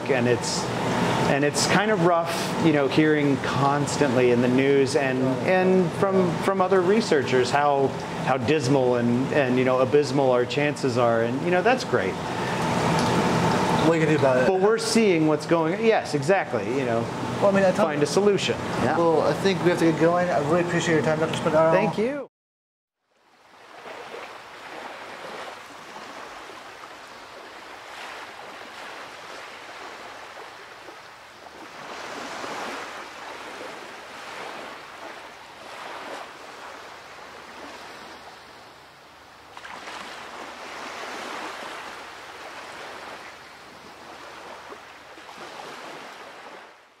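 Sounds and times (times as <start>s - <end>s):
waves washing in: 0.0s - 21.0s, 23.2s - 47.0s.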